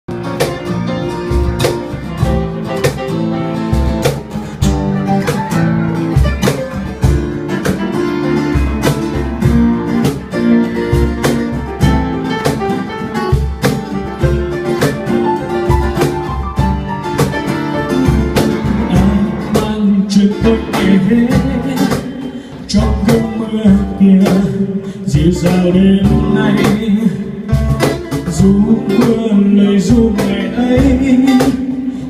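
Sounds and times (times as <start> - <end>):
bass: 0.0 - 32.0
guitar: 0.0 - 32.0
drums: 0.1 - 32.0.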